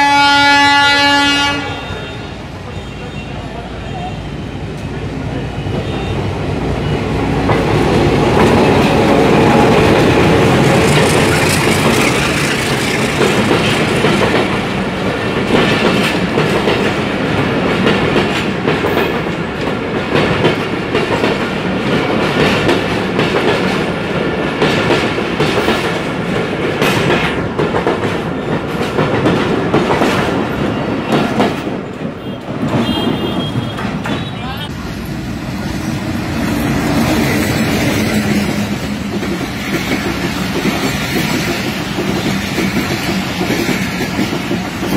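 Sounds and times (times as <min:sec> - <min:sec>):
diesel locomotive passing: 0:00.0 - 0:44.9
train wheels clickety-clack: 0:04.7 - 0:34.7, 0:35.7 - 0:44.9.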